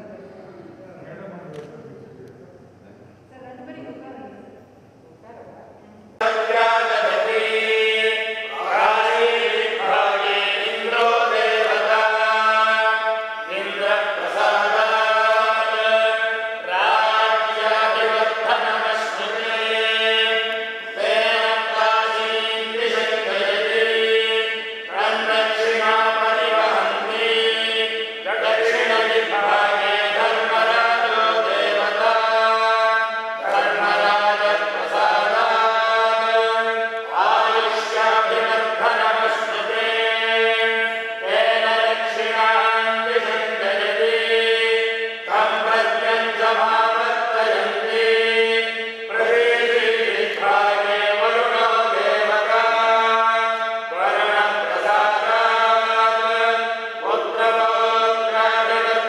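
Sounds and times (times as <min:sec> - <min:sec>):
priests chanting: 0:06.2 - 0:59.0.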